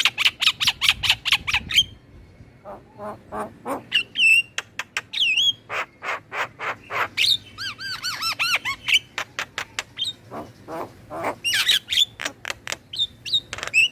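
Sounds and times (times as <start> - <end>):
birds chattering and squawking: 0.0 - 13.9.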